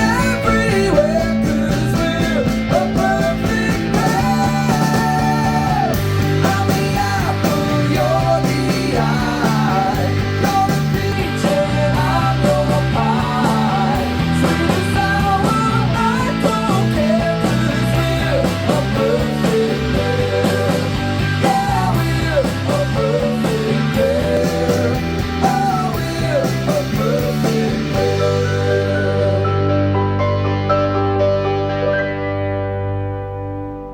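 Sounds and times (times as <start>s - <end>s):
rock song through speakers: 0.0s - 33.9s.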